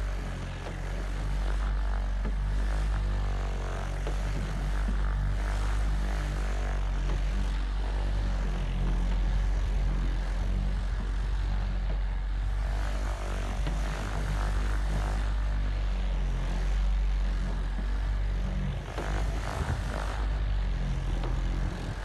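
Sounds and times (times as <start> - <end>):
orbital car polisher running: 0.0 - 22.0.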